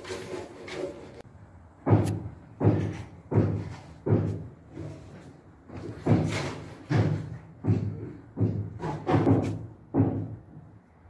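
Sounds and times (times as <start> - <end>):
heavy knocks: 1.8 - 10.8.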